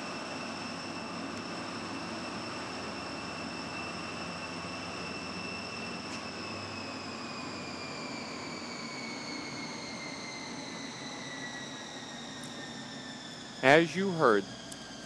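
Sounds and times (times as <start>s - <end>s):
high whine sinking in pitch: 1.0s - 15.0s.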